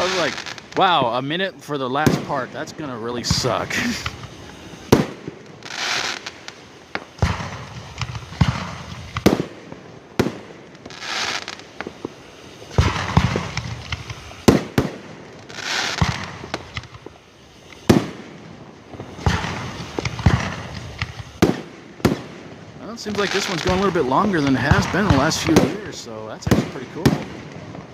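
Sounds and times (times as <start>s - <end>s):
fireworks bursting with booms: 0.0s - 27.9s
fireworks hissing: 0.0s - 27.9s.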